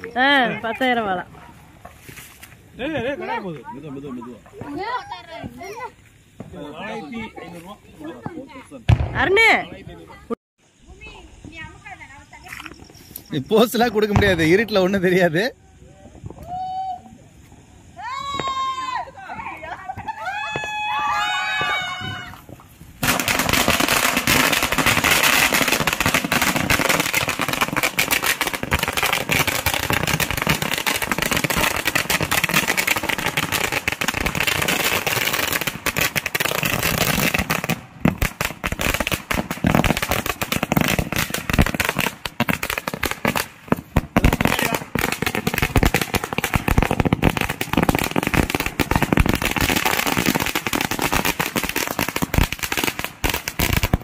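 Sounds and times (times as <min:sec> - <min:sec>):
firecrackers going off: 0:00.0 - 0:10.0, 0:10.8 - 0:15.5, 0:16.1 - 0:54.0.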